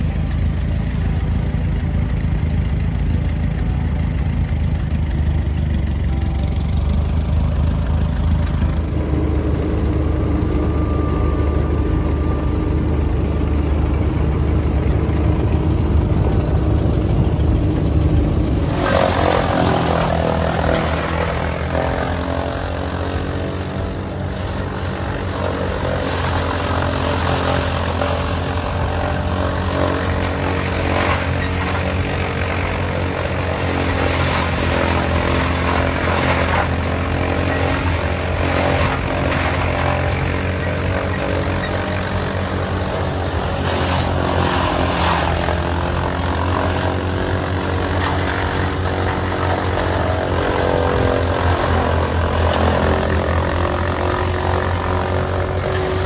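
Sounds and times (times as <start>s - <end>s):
cutter-blower chopping stalks: 0.0s - 56.0s
tractor engine running: 0.0s - 56.0s.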